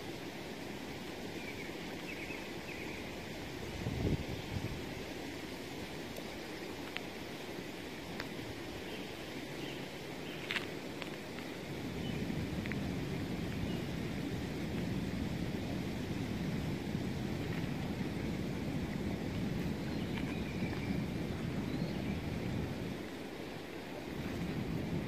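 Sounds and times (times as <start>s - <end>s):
low rumbling outdoor noise: 0.0s - 25.0s.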